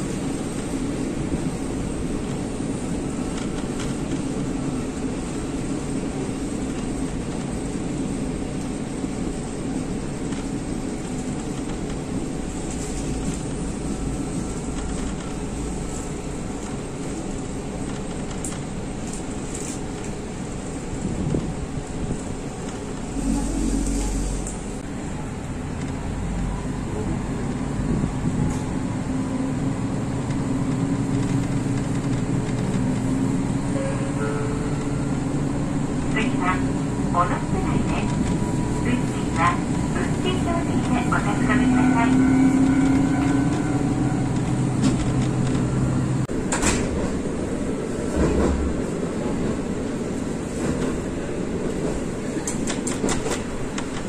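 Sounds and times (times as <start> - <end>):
diesel railcar engine under load: 0.0 - 54.0.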